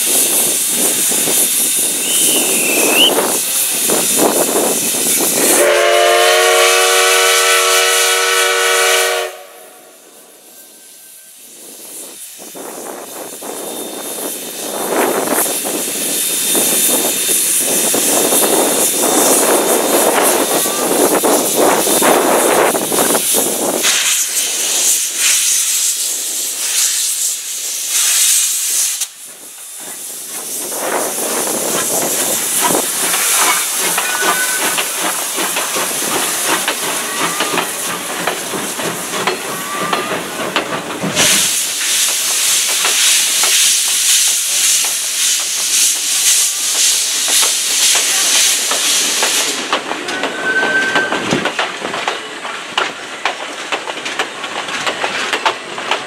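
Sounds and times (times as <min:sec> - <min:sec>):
passenger coaches rolling past: 0:00.0 - 0:26.8, 0:29.1 - 0:56.0
steam locomotive hissing steam: 0:00.0 - 0:56.0.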